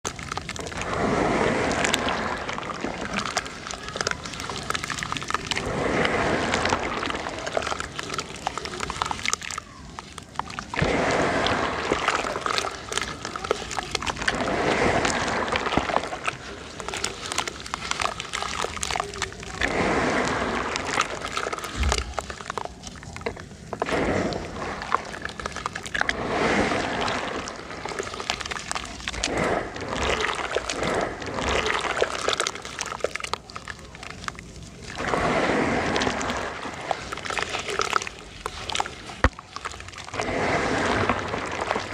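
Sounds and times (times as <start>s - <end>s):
sand-cement chunks crunching: 1.5s - 41.9s.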